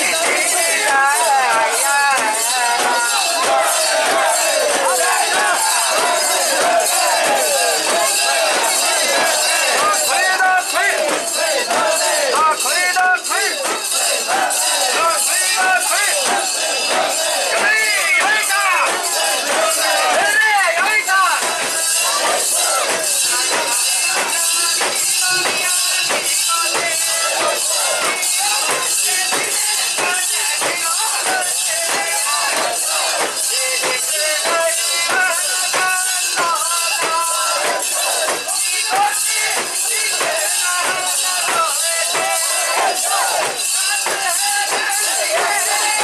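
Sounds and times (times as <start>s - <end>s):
crowd chanting: 0.0s - 46.0s.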